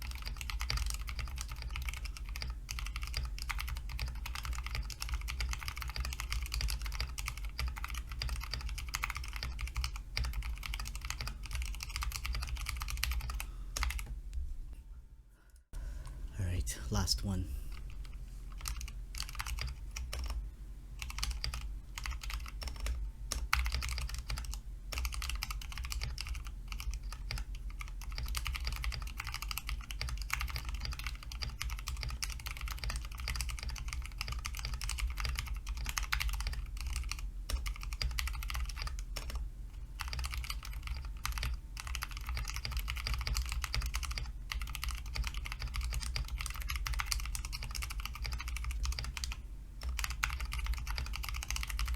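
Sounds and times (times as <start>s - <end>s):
typing on mechanical keyboard: 0.0s - 14.1s, 18.5s - 20.4s, 21.0s - 39.4s, 40.0s - 51.9s.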